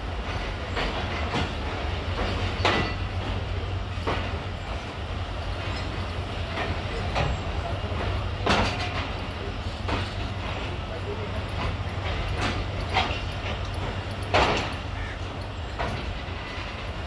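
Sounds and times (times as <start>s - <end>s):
train coaches rumbling: 0.0s - 17.0s
wheels knocking on rail joints: 0.2s - 4.8s, 5.6s - 17.0s.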